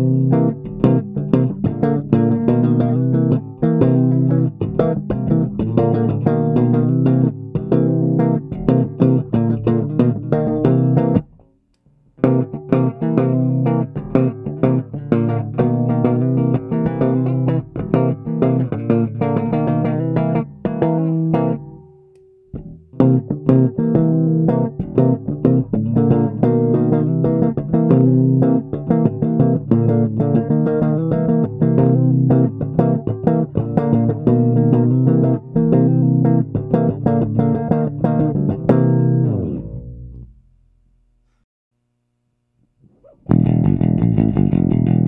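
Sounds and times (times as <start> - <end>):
electric bass strummed chords: 0.0 - 11.4, 12.2 - 21.8, 22.6 - 40.5, 43.3 - 45.0.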